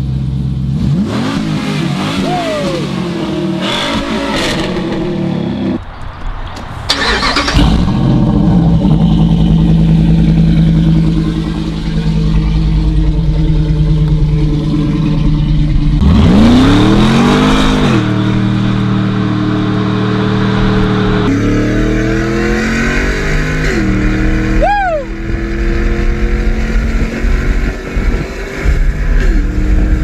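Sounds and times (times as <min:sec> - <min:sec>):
engine idling and revving: 0:00.0 - 0:05.8, 0:06.6 - 0:30.0.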